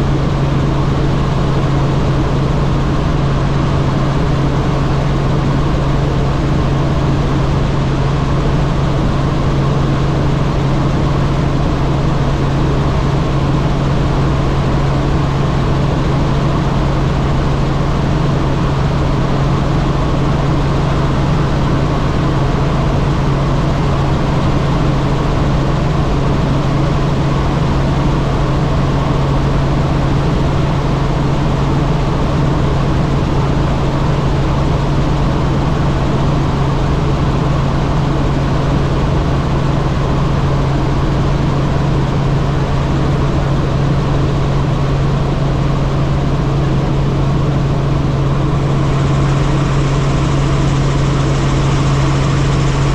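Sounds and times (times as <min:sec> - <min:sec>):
helicopter drone: 0:00.0 - 0:52.9.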